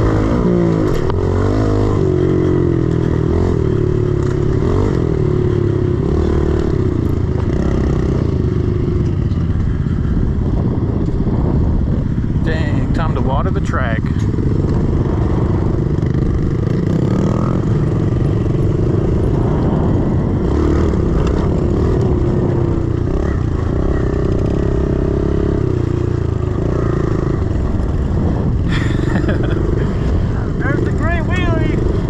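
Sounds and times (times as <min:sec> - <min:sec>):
pit bike engine running hard: 0:00.0 - 0:32.0.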